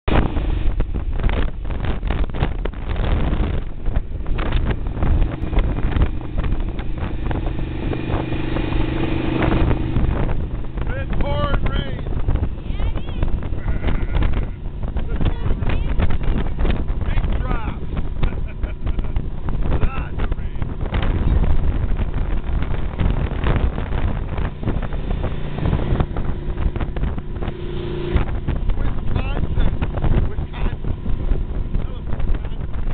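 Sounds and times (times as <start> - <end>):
road rumble: 0.0 - 32.9
wind buffeting microphone: 0.0 - 32.9
motorcycle engine: 0.3 - 32.9.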